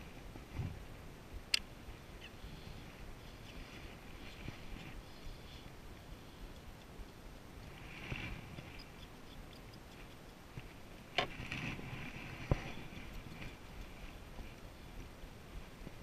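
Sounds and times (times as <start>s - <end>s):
low steady rush: 0.0s - 16.0s.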